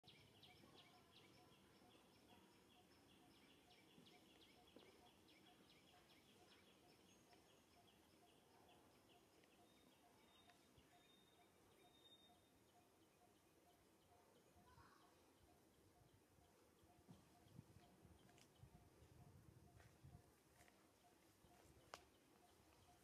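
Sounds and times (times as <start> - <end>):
faint outdoor ambience: 0.0 - 23.0.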